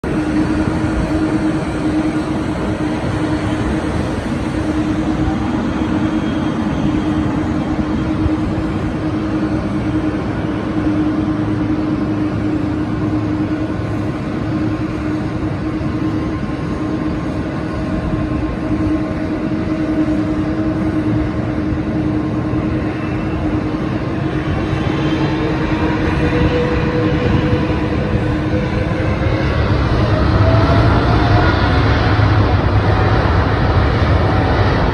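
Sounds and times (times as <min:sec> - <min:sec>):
jet engines whining: 0:00.0 - 0:34.9.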